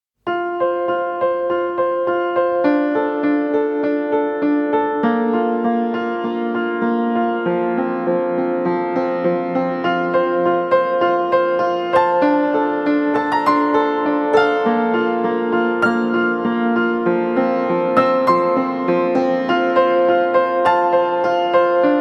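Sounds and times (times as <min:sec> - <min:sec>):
piano tune of repeated notes: 0:00.2 - 0:22.0.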